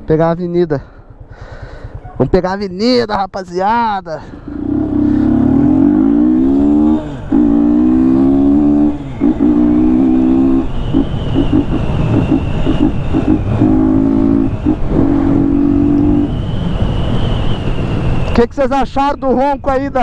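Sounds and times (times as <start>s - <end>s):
motorcycle engine accelerating: 0.0s - 3.1s, 4.3s - 18.4s.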